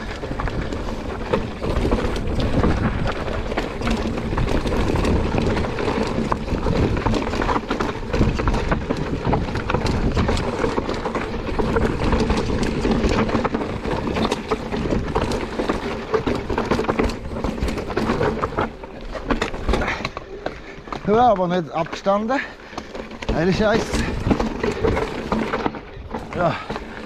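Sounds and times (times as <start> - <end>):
bike tyres rumbling over rock: 0.0 - 27.0.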